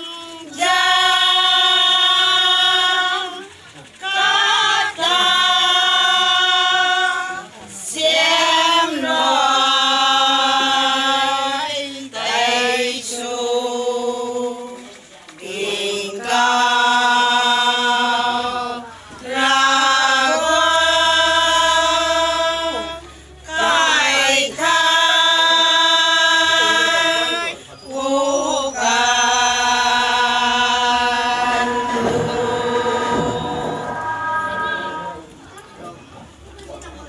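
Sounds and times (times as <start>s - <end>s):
women singing a hymn: 0.0s - 35.4s.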